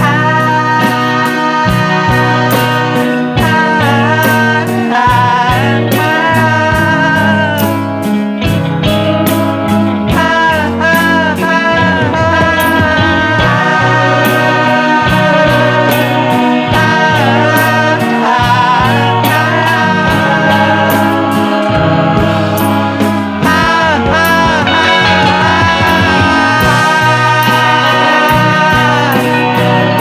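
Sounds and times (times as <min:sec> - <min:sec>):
song with guitar: 0:00.0 - 0:30.0
steady drum beat: 0:00.0 - 0:30.0.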